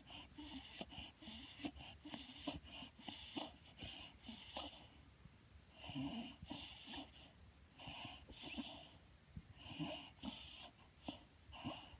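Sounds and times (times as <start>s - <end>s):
dog breathing noisily through nose: 0.0s - 5.0s, 5.7s - 9.0s, 9.6s - 11.9s.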